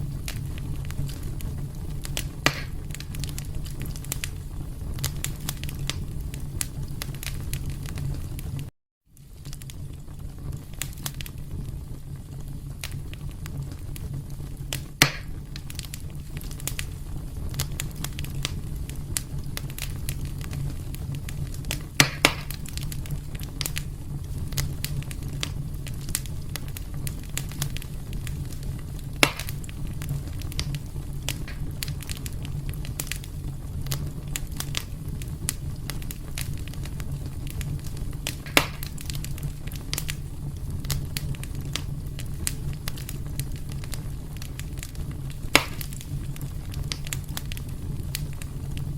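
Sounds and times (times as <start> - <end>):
fire popping: 0.0 - 48.9
wood fire crackling: 0.0 - 48.9.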